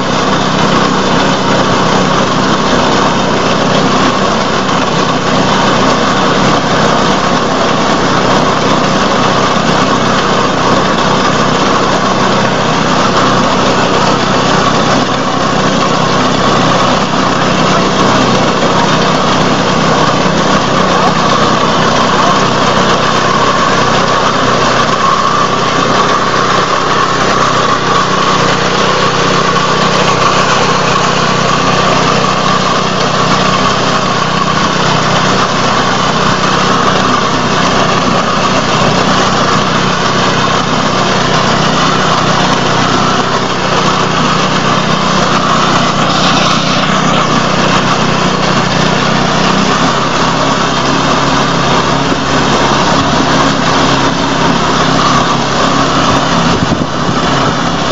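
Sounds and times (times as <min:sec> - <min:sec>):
reaper machine engine running: 0:00.0 - 0:57.9.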